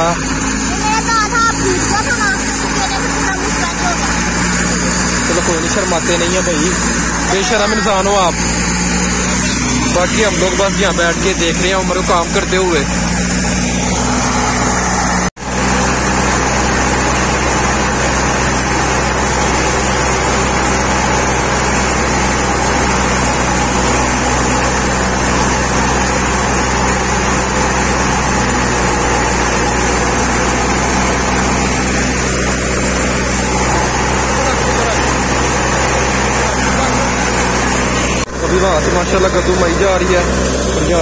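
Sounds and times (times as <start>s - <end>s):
thresher mechanical drone: 0.0s - 41.0s.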